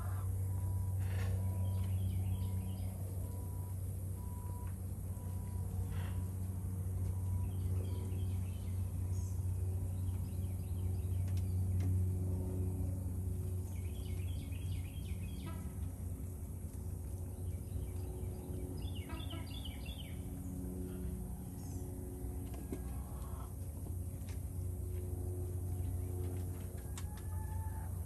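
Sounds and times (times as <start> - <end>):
low mechanical hum: 0.0 - 28.0
songbirds chirping: 0.0 - 28.0.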